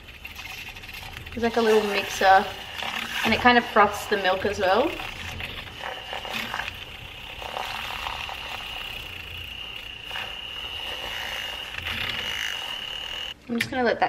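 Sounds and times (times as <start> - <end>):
milk frother whirring: 0.0 - 13.4.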